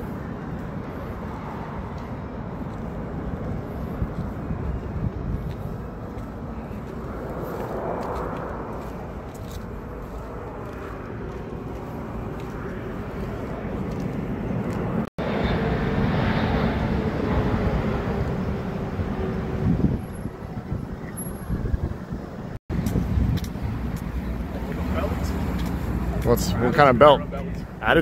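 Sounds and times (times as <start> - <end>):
traffic noise: 0.0 - 28.0
vehicle engine humming: 0.0 - 28.0.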